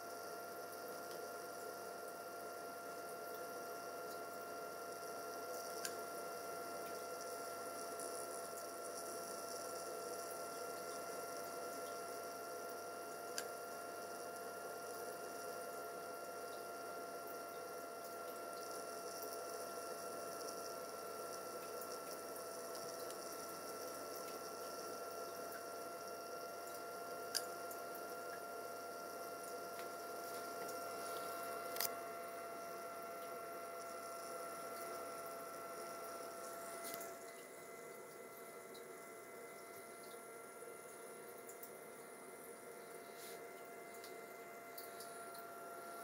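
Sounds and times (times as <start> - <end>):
equipment hiss and hum: 0.0 - 46.0
faint steady whine: 0.0 - 46.0.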